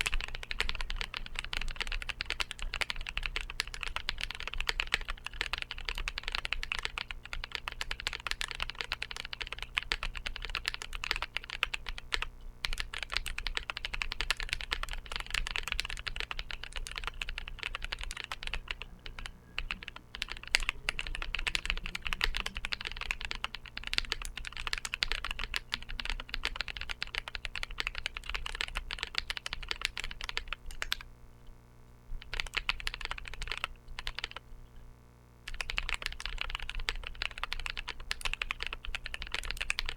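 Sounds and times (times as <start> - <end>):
mechanical keyboard typing: 0.0 - 31.1, 32.2 - 34.4, 35.5 - 39.9.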